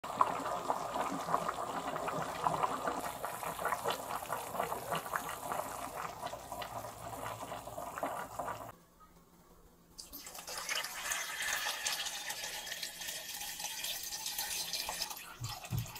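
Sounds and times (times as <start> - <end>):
broth bubbling in a pot: 0.0 - 8.8, 10.0 - 15.9.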